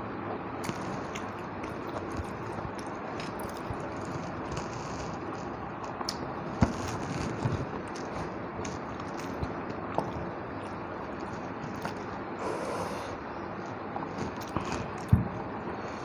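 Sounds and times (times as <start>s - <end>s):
person chewing food: 0.6s - 16.0s.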